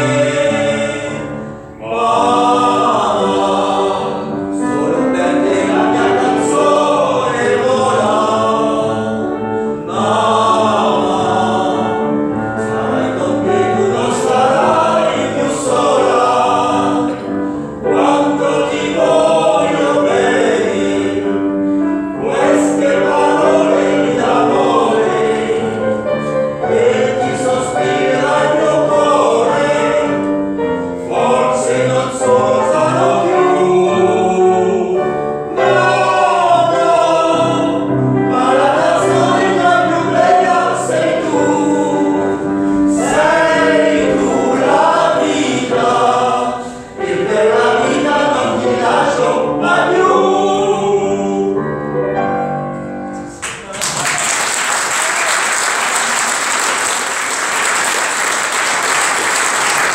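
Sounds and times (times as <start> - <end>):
voices singing together: 0.0 - 53.7.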